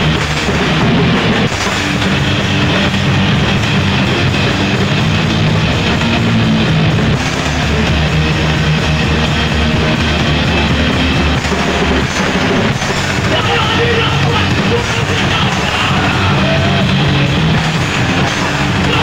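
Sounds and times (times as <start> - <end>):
distorted electric guitar: 0.0 - 19.0
drum kit and crashing cymbals: 0.0 - 19.0.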